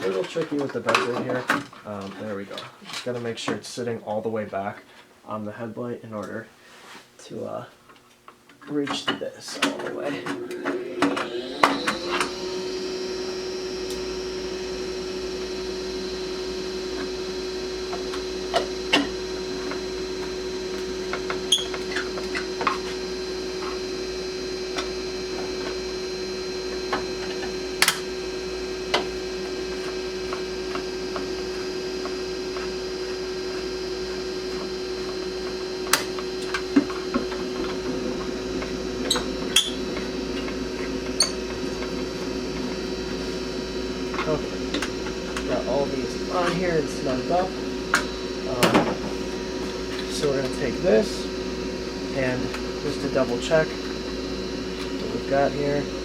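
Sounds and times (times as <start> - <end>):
electrical motor hum: 0.0 - 6.6, 7.3 - 56.0.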